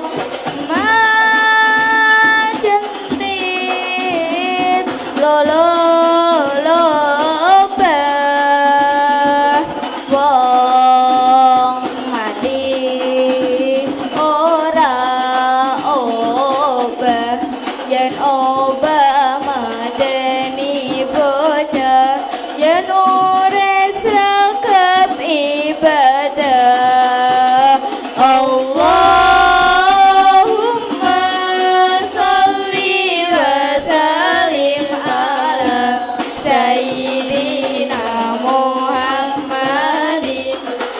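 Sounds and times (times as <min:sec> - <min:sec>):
children singing together: 0:00.0 - 0:40.9
frame drums beating: 0:00.0 - 0:40.9.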